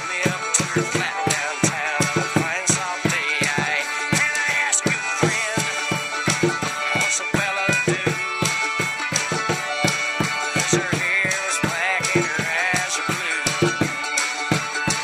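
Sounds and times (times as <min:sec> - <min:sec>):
recorded folk music: 0:00.0 - 0:15.0.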